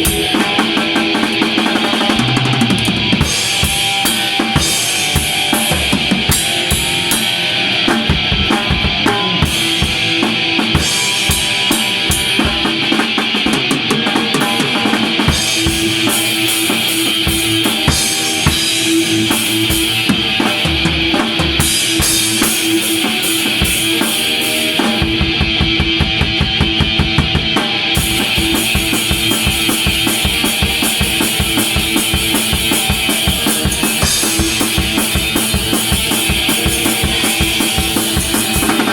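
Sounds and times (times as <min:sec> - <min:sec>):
heavy metal drum kit: 0:00.0 - 0:38.9.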